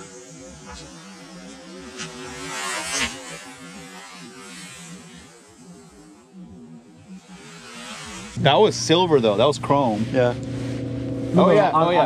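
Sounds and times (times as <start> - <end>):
low buzzing hum: 0.0 - 12.0.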